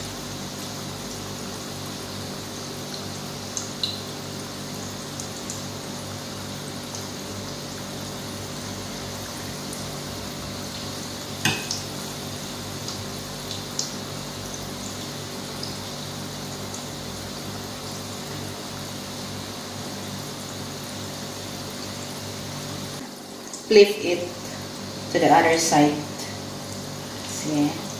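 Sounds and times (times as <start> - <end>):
deep-frying sizzle: 0.0 - 27.9.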